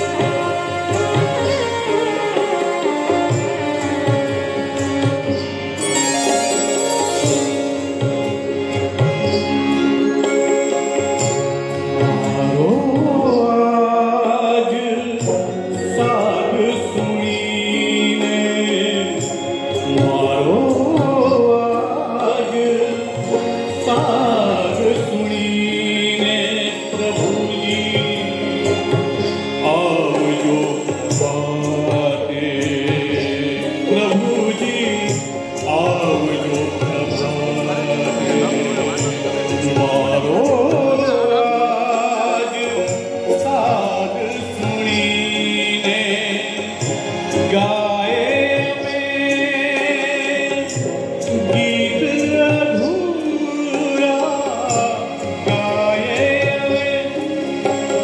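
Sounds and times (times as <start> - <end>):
harmonium notes: 0.0 - 58.0
man singing: 0.0 - 58.0
small band playing: 0.0 - 58.0.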